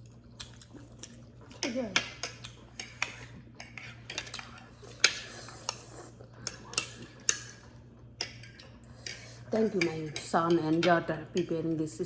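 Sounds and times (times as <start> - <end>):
cutlery clinking against dishes: 1.5 - 11.5.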